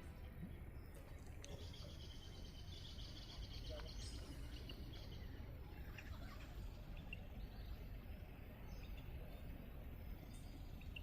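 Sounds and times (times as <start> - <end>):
low rumble of background noise: 0.0 - 11.0.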